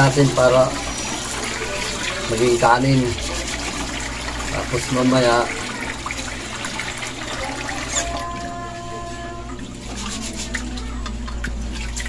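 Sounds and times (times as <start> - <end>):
tap water running into metal pot: 0.0 - 12.0.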